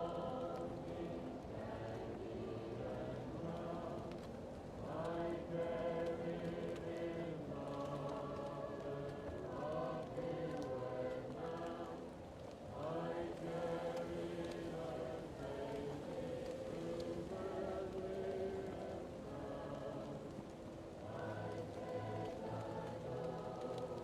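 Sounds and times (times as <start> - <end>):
muffled choir singing: 0.0 - 24.0
wood fire crackling: 0.0 - 24.0.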